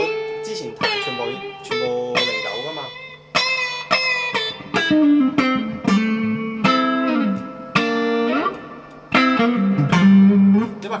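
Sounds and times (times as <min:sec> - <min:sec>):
electric guitar lead notes: 0:00.0 - 0:11.0.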